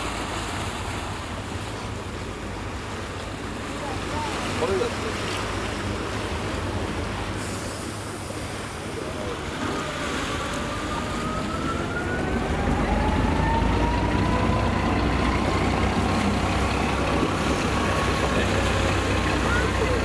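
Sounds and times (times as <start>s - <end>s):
ship engine droning: 0.0s - 20.0s
water wash: 0.0s - 20.0s.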